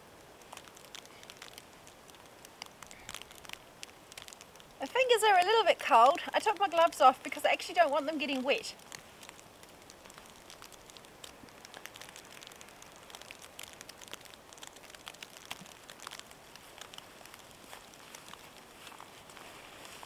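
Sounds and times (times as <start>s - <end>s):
wet snow pattering on tarp: 0.0s - 20.0s.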